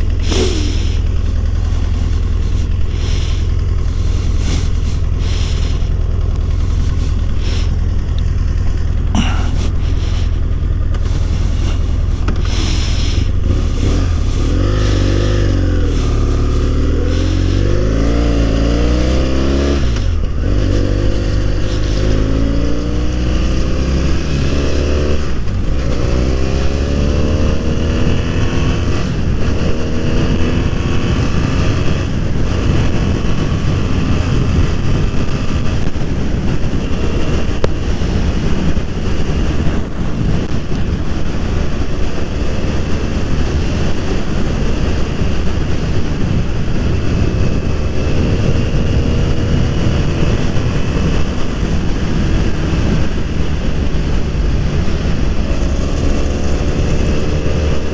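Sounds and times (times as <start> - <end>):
motorcycle engine accelerating: 0.0 - 57.9
wind rush on microphone: 0.0 - 57.9.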